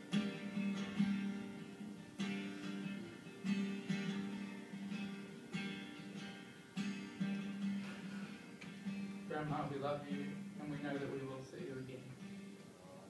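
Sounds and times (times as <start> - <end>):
acoustic guitar strumming chords: 0.0 - 12.8.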